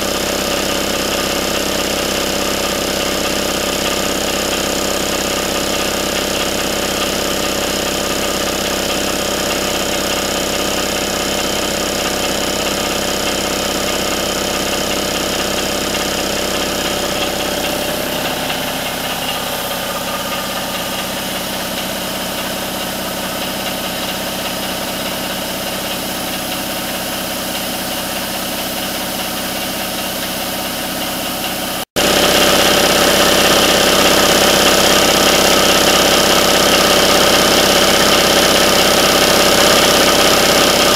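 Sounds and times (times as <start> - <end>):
air compressor running: 0.0 - 40.9.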